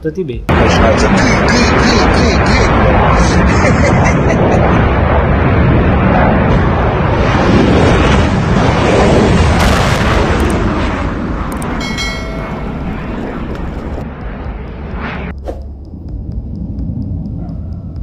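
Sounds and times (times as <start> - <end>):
rockets launching roar: 0.5 - 15.8.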